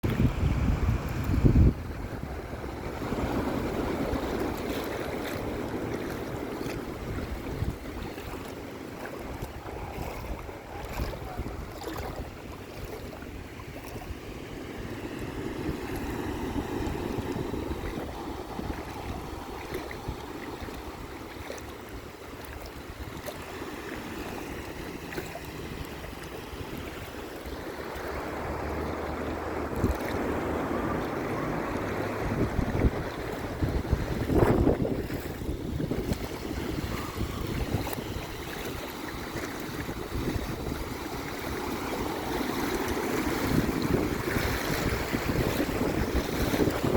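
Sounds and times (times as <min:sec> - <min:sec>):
sea waves washing in: 0:00.0 - 0:46.9
wind buffeting microphone: 0:00.0 - 0:46.9.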